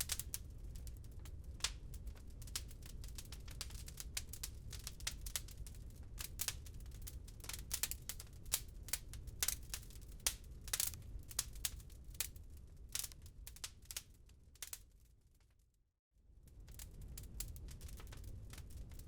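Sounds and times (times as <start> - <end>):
wood fire crackling: 0.0 - 15.0, 16.4 - 19.0.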